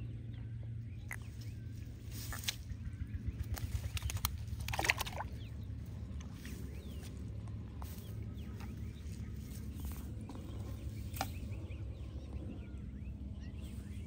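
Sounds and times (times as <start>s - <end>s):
birds chirping: 0.0s - 14.0s
low rumble: 0.0s - 14.0s.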